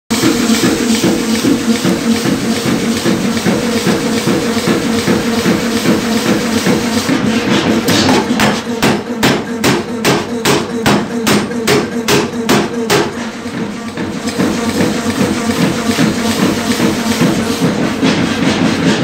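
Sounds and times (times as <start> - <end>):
power hammer heavy blows: 0.1 - 19.0
steady hum: 0.1 - 19.0.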